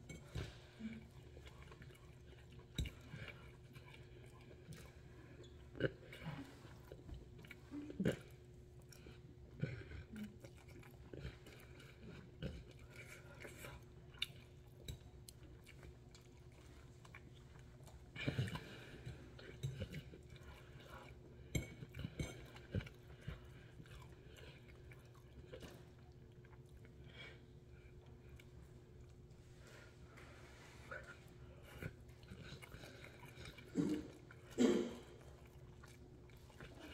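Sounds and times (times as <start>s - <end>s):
chewing noodles: 0.0s - 36.9s
faint steady hum: 0.0s - 36.9s.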